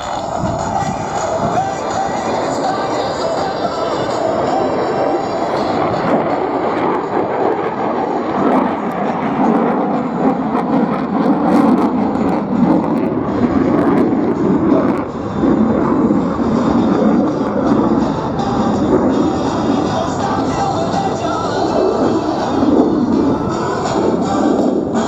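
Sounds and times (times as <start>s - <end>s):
fighter jet engine rushing: 0.0s - 25.0s.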